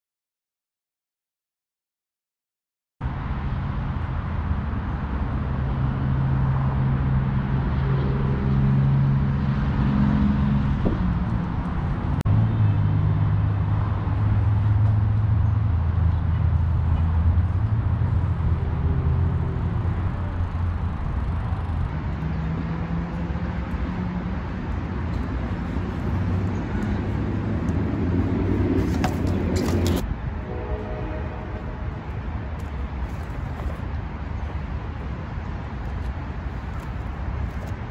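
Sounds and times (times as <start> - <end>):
city traffic rumble: 3.0 - 37.9
vehicle engine humming: 3.4 - 37.9.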